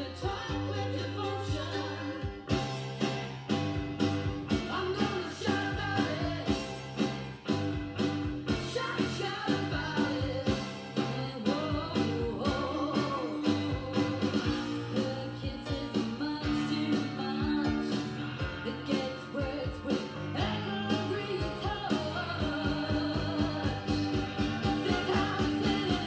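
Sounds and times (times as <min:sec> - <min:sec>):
pop-rock song with singing: 0:00.0 - 0:26.0
steady drum beat: 0:01.5 - 0:26.0.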